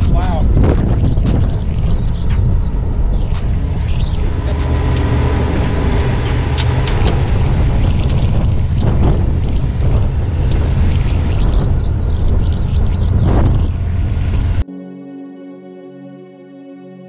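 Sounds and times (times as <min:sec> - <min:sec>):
buggy engine droning: 0:00.0 - 0:14.6
sharp ticks and spatters: 0:00.0 - 0:14.6.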